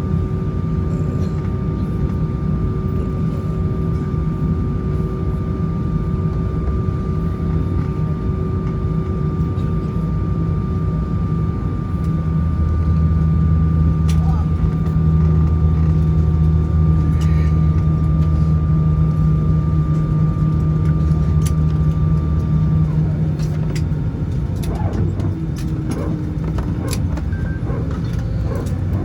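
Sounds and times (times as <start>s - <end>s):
aircraft cabin hum: 0.0s - 29.0s.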